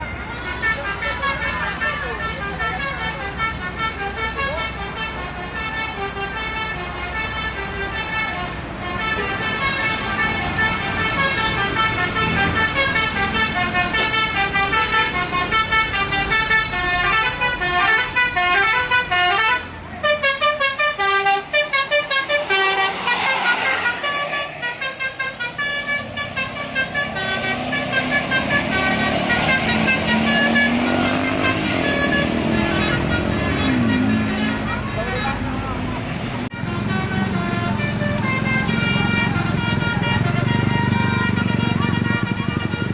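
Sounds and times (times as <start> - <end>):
multi-trumpet air horns playing tunes: 0.5 - 35.5, 36.5 - 42.9
bus engine revving: 2.0 - 42.9.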